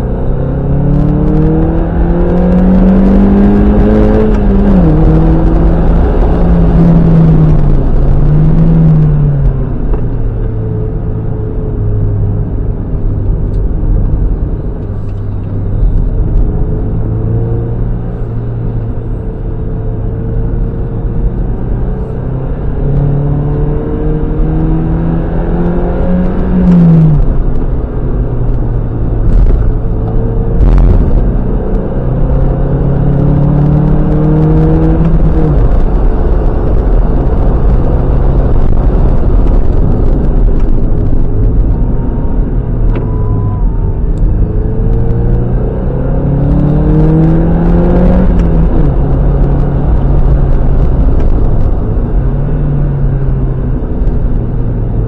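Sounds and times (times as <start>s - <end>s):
car engine revving: 0.0s - 55.0s
road rumble: 0.0s - 55.0s.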